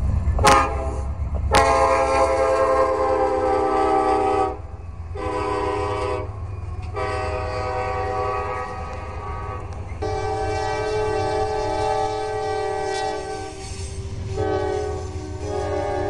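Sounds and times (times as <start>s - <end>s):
freight train rumbling past: 0.0s - 16.0s
locomotive air horn blasts: 0.4s - 16.0s.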